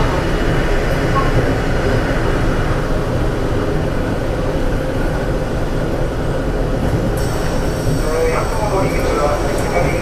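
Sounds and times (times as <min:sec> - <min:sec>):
diesel train running: 0:00.0 - 0:10.0.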